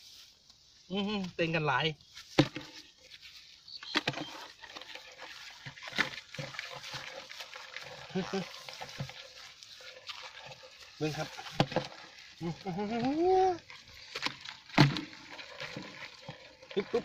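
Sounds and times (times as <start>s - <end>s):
dry straw rustling: 2.0s - 16.1s.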